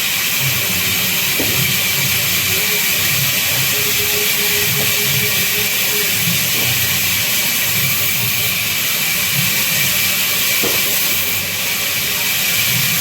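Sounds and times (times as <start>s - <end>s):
band saw cutting wood: 0.0s - 13.0s.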